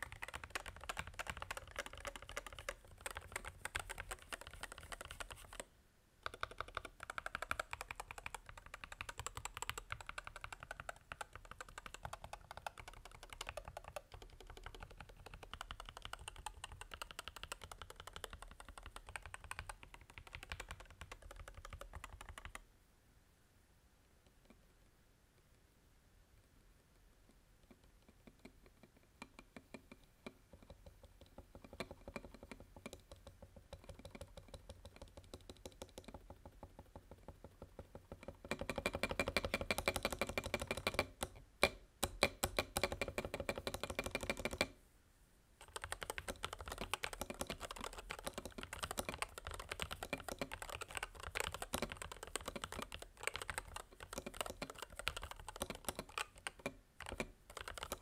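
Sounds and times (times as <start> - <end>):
keyboard typing: 0.0 - 22.6, 30.6 - 44.7, 45.6 - 58.0.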